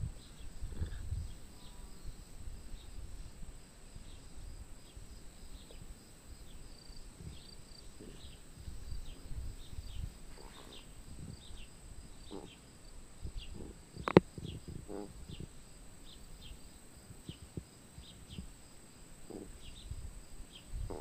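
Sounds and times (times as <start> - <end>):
faint chirps: 0.0 - 3.0, 4.0 - 21.0
high insect drone: 0.0 - 21.0.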